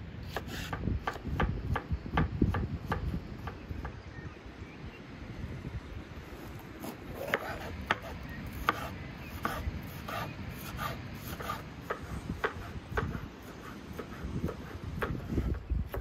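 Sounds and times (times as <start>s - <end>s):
knife chopping on wooden board: 0.3s - 4.0s, 6.8s - 16.0s.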